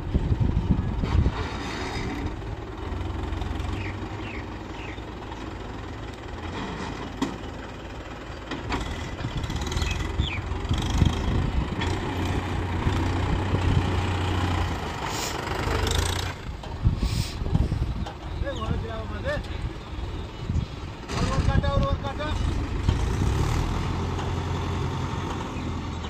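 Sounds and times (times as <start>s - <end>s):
tractor diesel engine: 0.0s - 26.0s.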